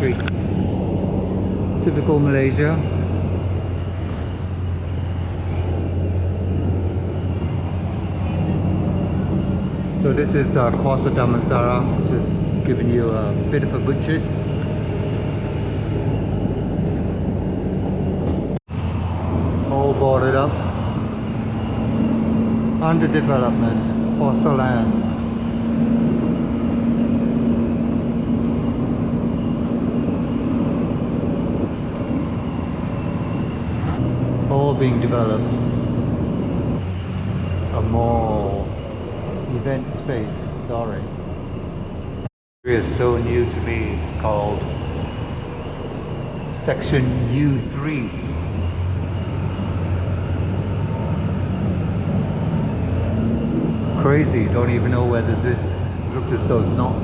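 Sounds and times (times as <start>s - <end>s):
bus engine hum: 0.0s - 57.0s
road noise: 0.0s - 57.0s.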